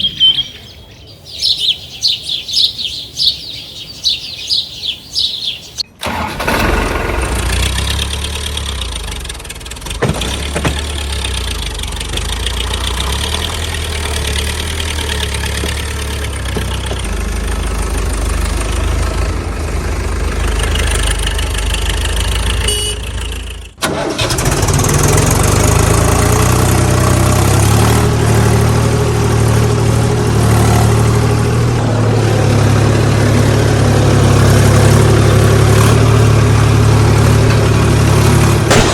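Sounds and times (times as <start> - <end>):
engine running steadily: 4.8 - 38.9
louder engine with deeper hum: 6.5 - 38.9.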